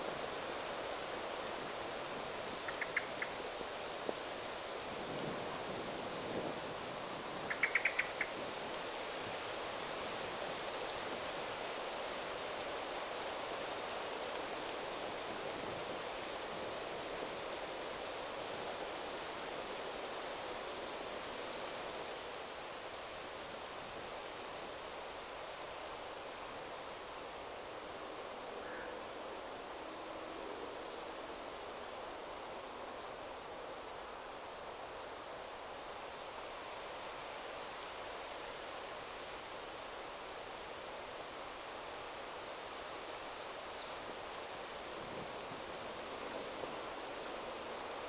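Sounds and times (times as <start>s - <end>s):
wind rustling through trees: 0.0s - 48.0s.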